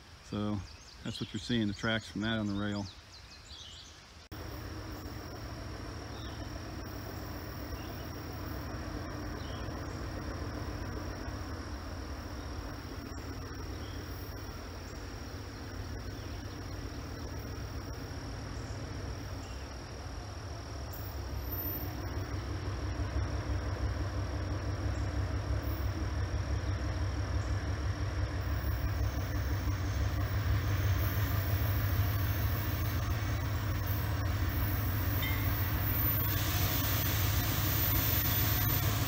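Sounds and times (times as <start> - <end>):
diesel locomotive engine rumbling: 4.3 - 39.0.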